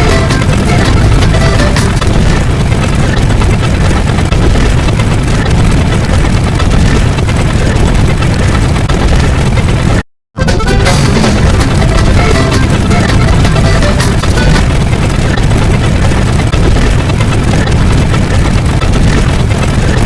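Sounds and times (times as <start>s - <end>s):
dense wall of layered noise: 0.0s - 20.0s.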